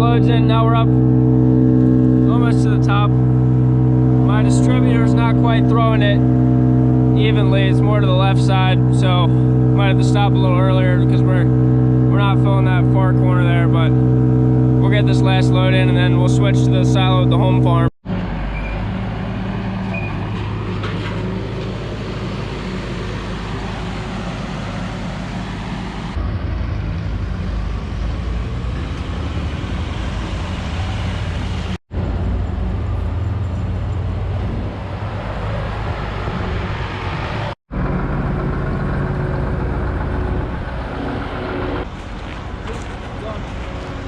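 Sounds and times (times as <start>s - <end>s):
tractor engine hum: 0.0s - 44.0s.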